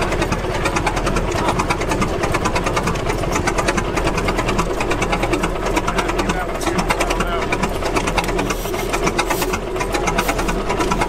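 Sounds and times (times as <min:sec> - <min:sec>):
engine mechanical clatter: 0:00.0 - 0:11.0.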